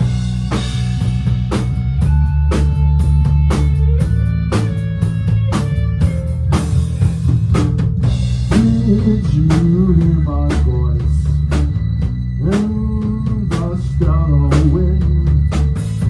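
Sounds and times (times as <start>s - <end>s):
drum kit beat: 0.0s - 16.0s
electric guitar: 0.0s - 16.0s.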